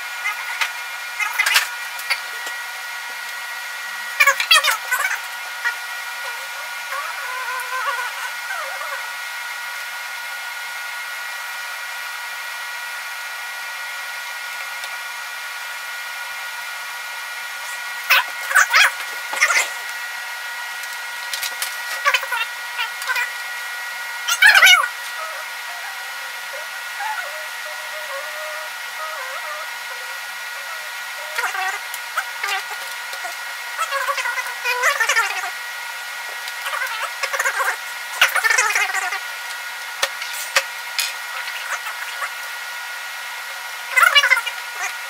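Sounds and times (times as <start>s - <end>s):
whirring fan hum: 0.0s - 45.0s.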